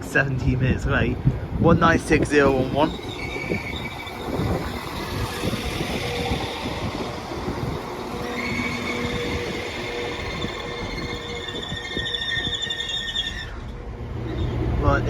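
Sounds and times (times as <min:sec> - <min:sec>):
train engine and wheels rumbling: 0:00.0 - 0:15.0
faint high whines: 0:00.8 - 0:15.0.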